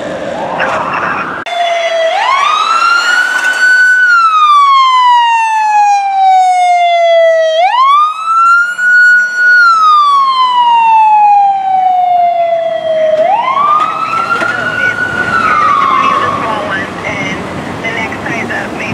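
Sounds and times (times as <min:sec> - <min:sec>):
ambulance siren wailing: 0:00.0 - 0:18.5.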